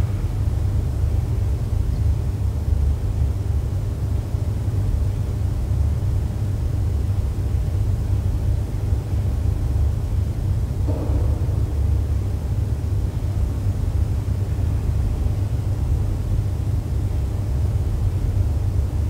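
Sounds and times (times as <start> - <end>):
low church room rumble: 0.0 - 19.0.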